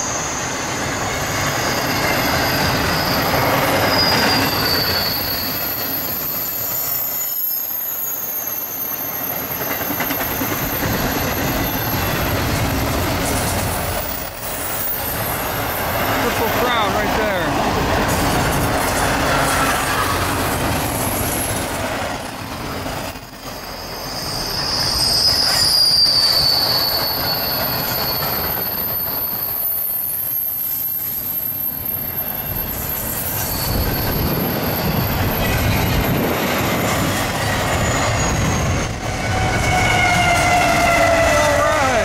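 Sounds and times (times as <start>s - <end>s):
rumble of train wheels: 0.0s - 42.0s
train wheels squealing on rails: 0.0s - 42.0s.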